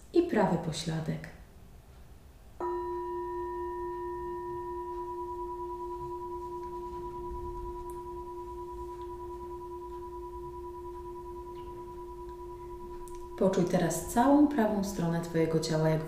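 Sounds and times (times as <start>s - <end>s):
singing bowl ringing: 2.6s - 16.0s.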